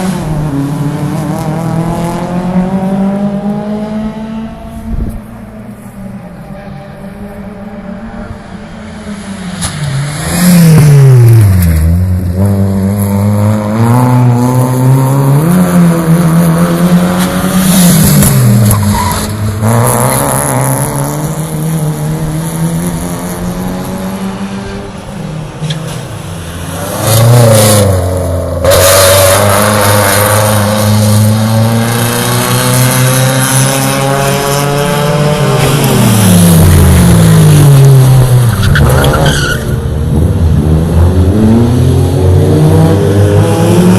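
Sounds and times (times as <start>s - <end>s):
race car engines accelerating: 0.0s - 43.9s.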